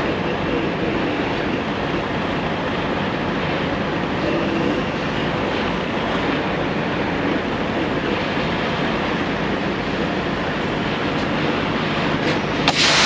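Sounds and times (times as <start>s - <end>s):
semi truck engine running: 0.0s - 13.0s.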